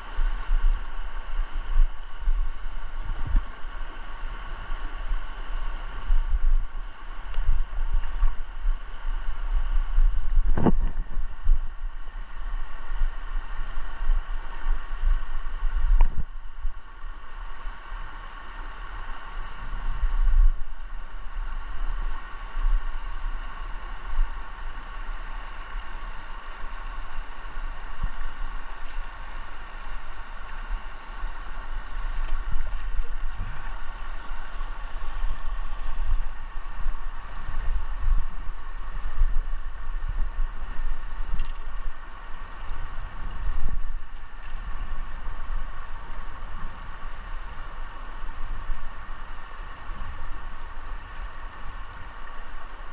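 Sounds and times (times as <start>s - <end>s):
river water rushing over rocks: 0.0s - 52.9s.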